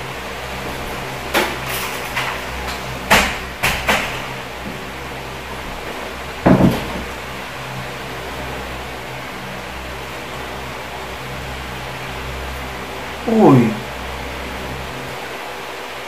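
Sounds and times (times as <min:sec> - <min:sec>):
electric fan hum: 0:00.0 - 0:16.0.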